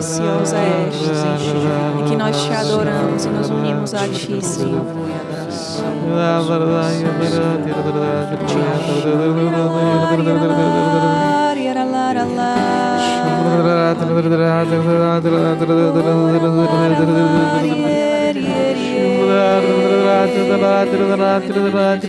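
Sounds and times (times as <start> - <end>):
person singing softly: 0.0 - 22.0
sustained worship chords: 0.0 - 22.0.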